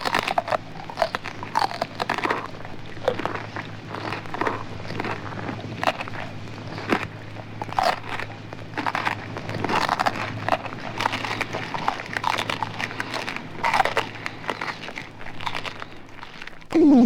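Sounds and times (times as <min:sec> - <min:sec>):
low hum: 0:00.0 - 0:17.0
wet chewing and crunching: 0:00.0 - 0:17.0.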